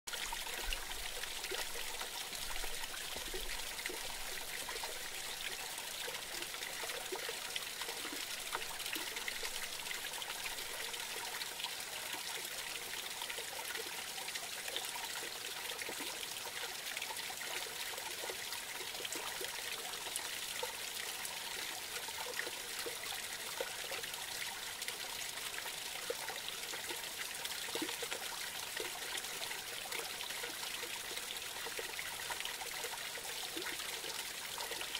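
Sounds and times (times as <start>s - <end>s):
stream trickling and splashing: 0.1s - 34.9s.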